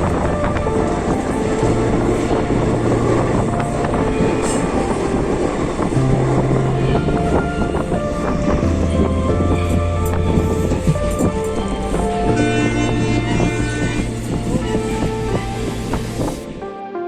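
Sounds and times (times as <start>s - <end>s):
train rumble: 0.0s - 16.6s.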